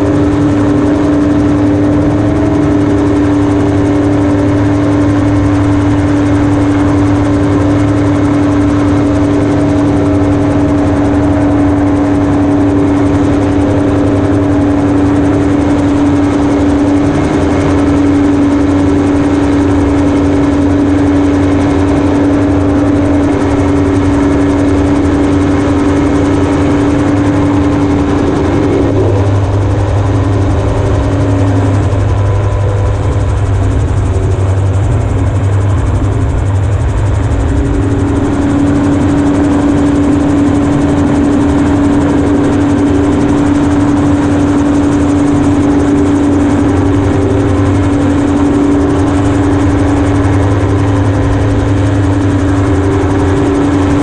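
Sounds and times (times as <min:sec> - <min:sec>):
aircraft engine drone: 0:00.0 - 0:54.0.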